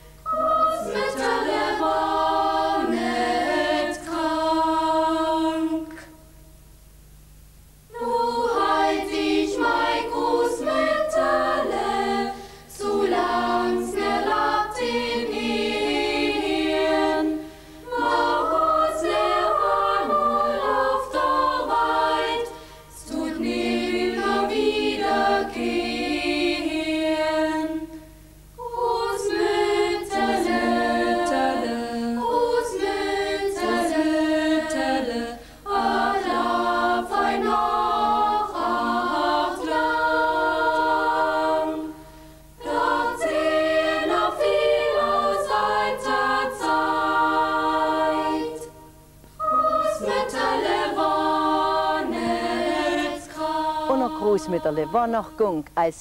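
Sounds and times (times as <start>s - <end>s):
choir singing: 0.2s - 6.2s, 7.9s - 28.0s, 28.6s - 55.6s.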